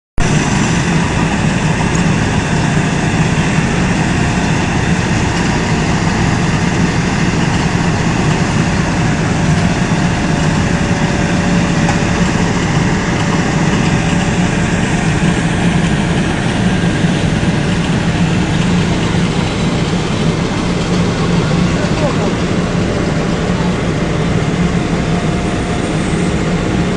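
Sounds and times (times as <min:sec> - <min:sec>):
diesel engine running: 0:00.2 - 0:26.9.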